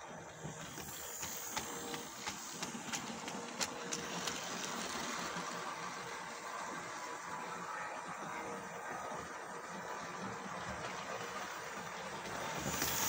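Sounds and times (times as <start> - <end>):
model train running noise: 0.0 - 13.0
wheels clicking over rail joints: 0.3 - 13.0.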